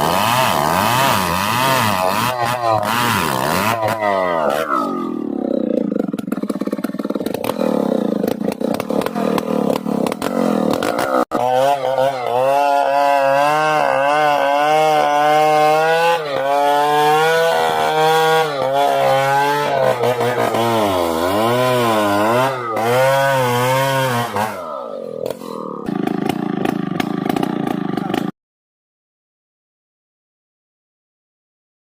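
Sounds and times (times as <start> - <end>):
engine-driven saw cutting log: 0.0 - 28.3.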